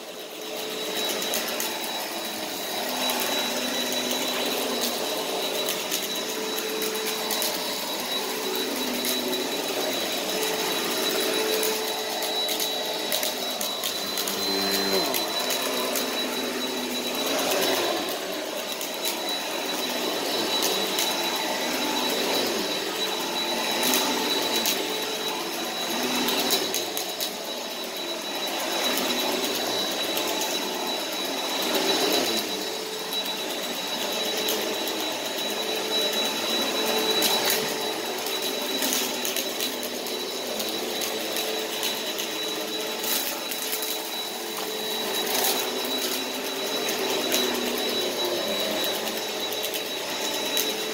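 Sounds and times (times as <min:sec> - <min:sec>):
vacuum cleaner motor whining: 0:00.0 - 0:50.9.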